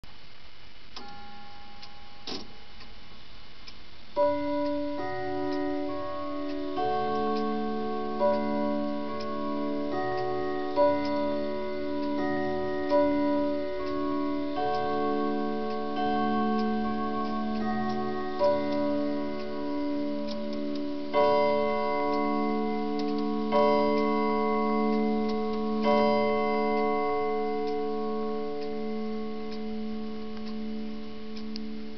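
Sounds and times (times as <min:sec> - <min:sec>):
tubular clock chimes: 0:01.0 - 0:03.0, 0:03.6 - 0:31.9
loud clock strikes: 0:04.2 - 0:31.9.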